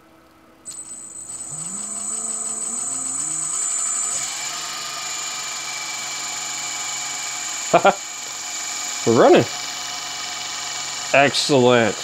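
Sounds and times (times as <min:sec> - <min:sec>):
low motor hum climbing: 0:00.7 - 0:12.0
motor high whine: 0:00.7 - 0:12.0.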